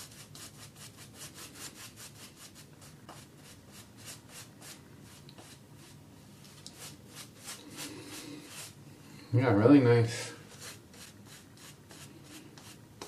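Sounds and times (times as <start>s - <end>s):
shaving brush swishing lather: 0.0s - 8.8s, 10.5s - 12.8s.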